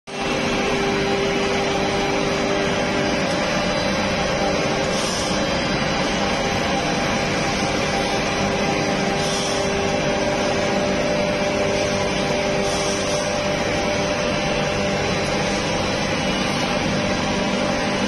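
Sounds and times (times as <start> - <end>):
constant hum: 0.1 - 18.0
machine drone: 0.1 - 18.0.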